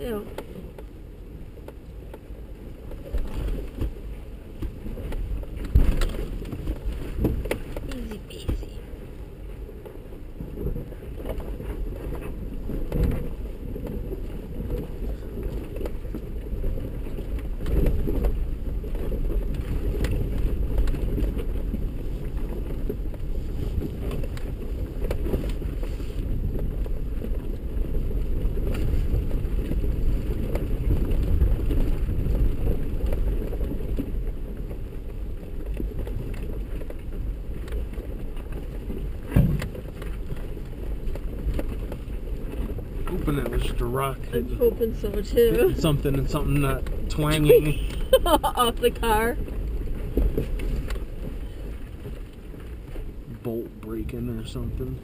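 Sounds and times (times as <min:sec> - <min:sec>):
vehicle cab rumble: 0:00.0 - 0:55.0.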